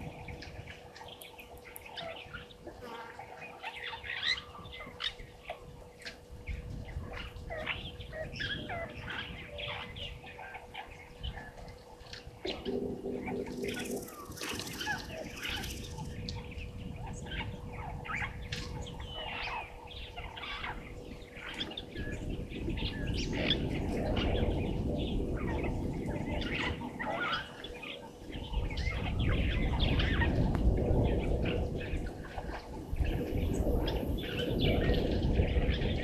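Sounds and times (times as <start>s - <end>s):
low noise: 0.0s - 35.6s
faint steady hum: 0.0s - 36.0s
small birds chirping: 0.0s - 36.0s.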